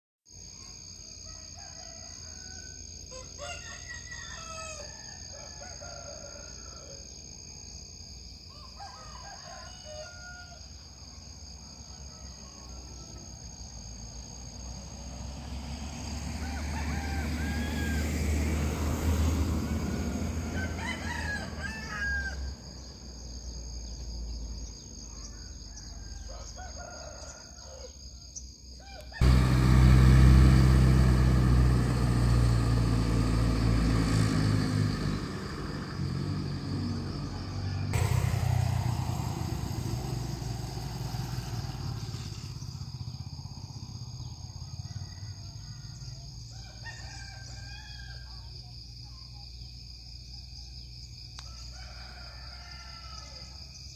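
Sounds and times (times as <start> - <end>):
roosters crowing: 1.2 - 7.4, 8.4 - 11.0, 11.6 - 23.0, 25.0 - 48.6, 50.8 - 53.8.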